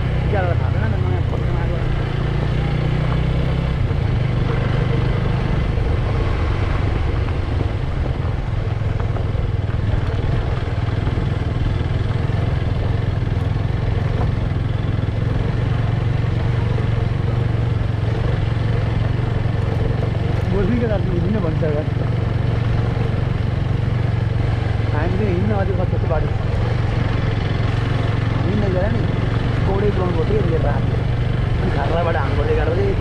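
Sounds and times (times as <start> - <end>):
motorbike engine running: 0.0 - 33.0
road and wind noise: 0.0 - 33.0.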